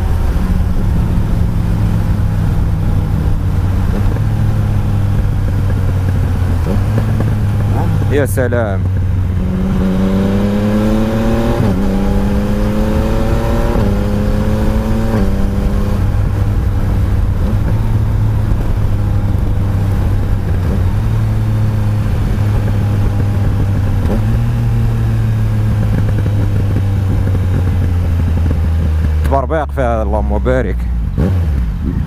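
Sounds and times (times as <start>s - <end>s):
wind rush: 0.0s - 29.2s
motorcycle engine accelerating: 0.0s - 32.0s.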